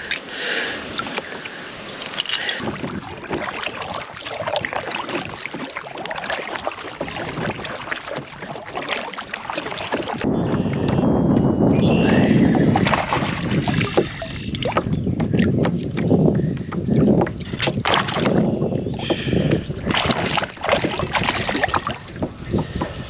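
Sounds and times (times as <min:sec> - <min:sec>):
water splashing around kayak: 0:00.0 - 0:23.0.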